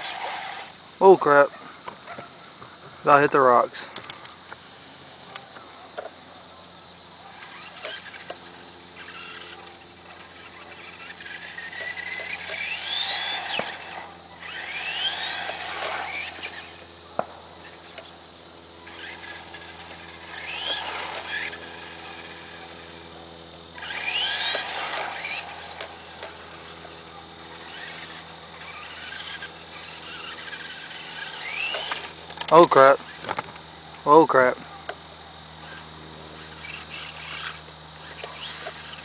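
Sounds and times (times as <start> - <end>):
toy car electric motor whining: 0.0 - 39.0.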